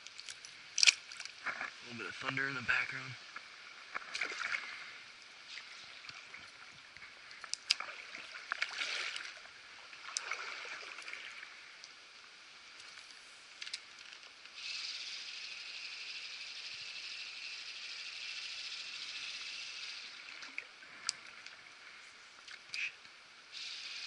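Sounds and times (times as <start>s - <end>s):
loud steady hiss: 0.0s - 7.5s, 9.4s - 24.0s
creek water: 0.0s - 24.0s
light rain hissing: 0.0s - 24.0s.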